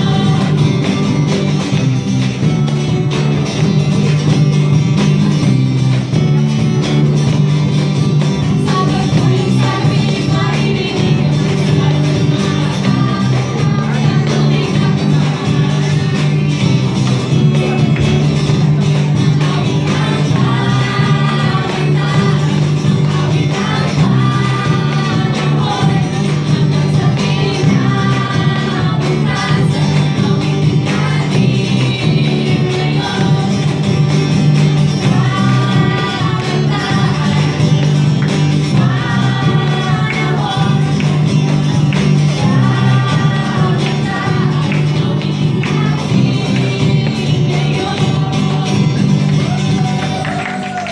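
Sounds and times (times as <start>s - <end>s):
instrumental accompaniment: 0.0s - 50.9s
several voices singing: 0.0s - 50.9s.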